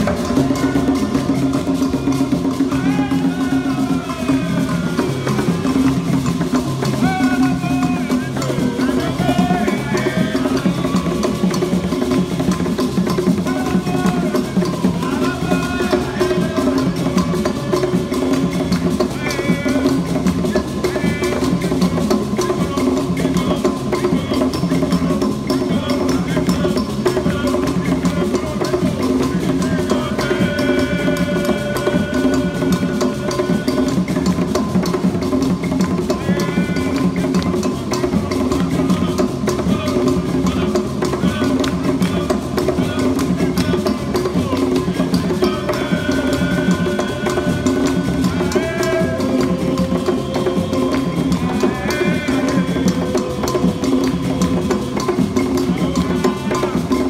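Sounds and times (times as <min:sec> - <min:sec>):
hand drums in interlocking rhythm: 0:00.0 - 0:57.0
voices singing: 0:00.0 - 0:57.0.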